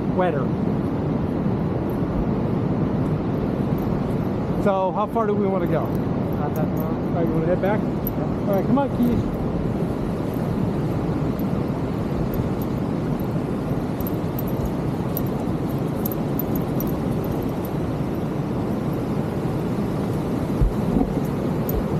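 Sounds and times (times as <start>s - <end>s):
ocean surf: 0.0s - 21.9s
wind buffeting microphone: 0.0s - 21.9s.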